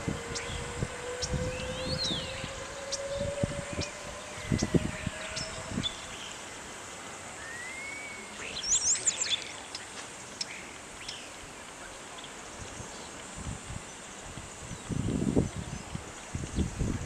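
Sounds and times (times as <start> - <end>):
birds chirping: 0.0 - 16.8
steady outdoor hiss: 0.0 - 17.0.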